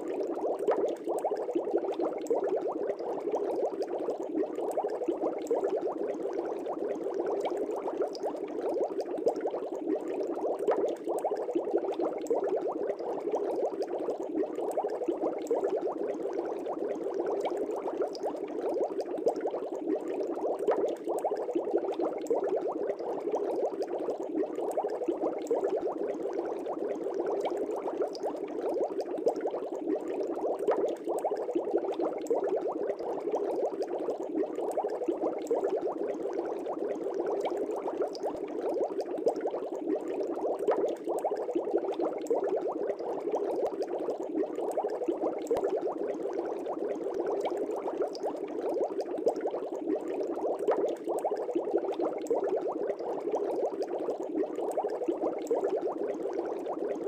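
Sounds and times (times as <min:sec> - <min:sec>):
aquarium air bubbling: 0:00.0 - 0:57.0.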